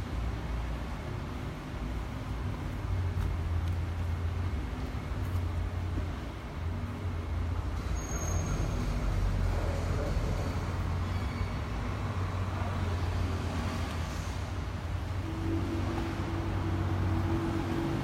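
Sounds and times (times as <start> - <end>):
street traffic: 0.0 - 18.0.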